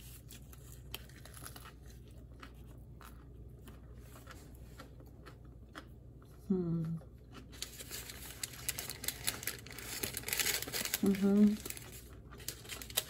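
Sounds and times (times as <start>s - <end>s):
crunching and chewing food: 0.0s - 13.0s.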